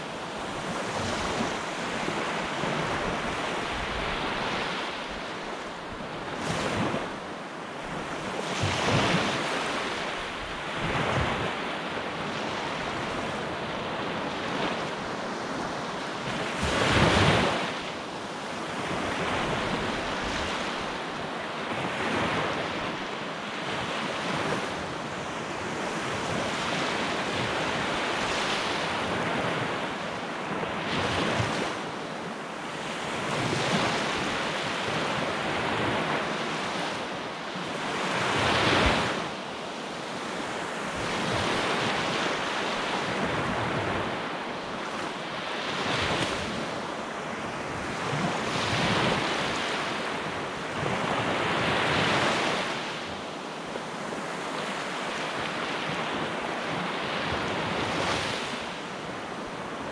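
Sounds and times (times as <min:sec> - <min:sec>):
surf washing up a sandy beach: 0:00.0 - 0:59.9.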